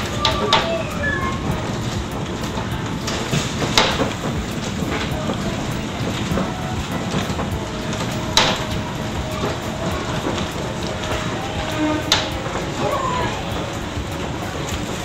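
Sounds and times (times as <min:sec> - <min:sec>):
train car rumble and hiss: 0:00.0 - 0:15.0.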